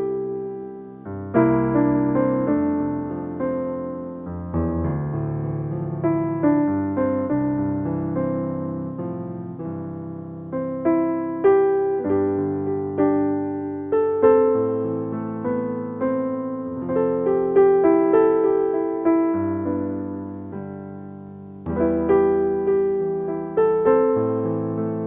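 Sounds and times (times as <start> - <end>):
slow piano melody: 0.0 - 25.0.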